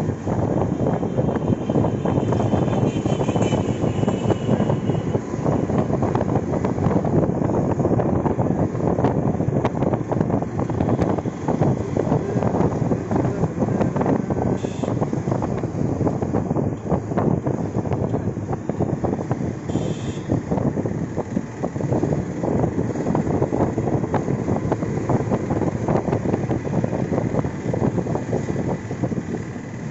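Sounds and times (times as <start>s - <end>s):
road noise rumbling: 0.0s - 29.9s
wind buffeting microphone: 0.0s - 29.9s.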